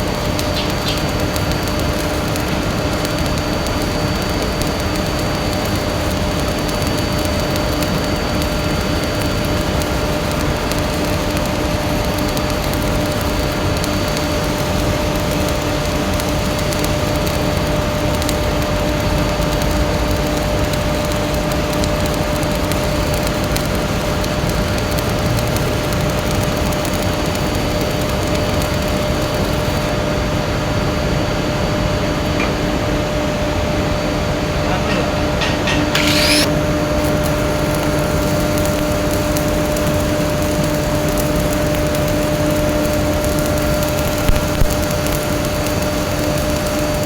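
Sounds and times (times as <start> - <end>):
welding arc crackling: 0.0 - 30.3, 35.4 - 47.0.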